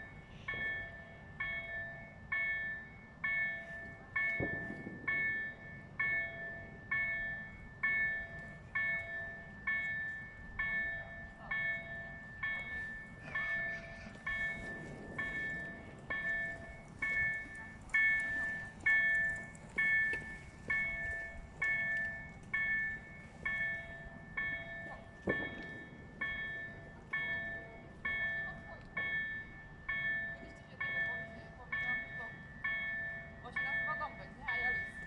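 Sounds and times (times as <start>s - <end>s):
railway warning bell dinging: 0.0s - 35.0s.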